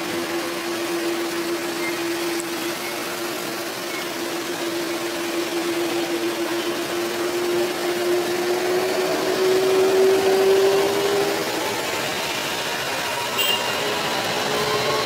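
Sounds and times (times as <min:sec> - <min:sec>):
jet engines hissing and whining: 0:00.0 - 0:15.0.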